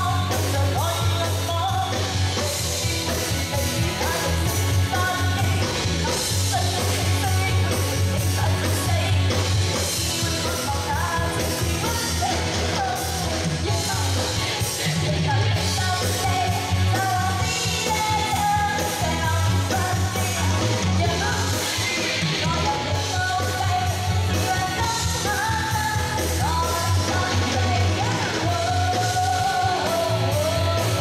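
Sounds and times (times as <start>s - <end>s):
live pop band over loudspeakers: 0.0s - 31.0s.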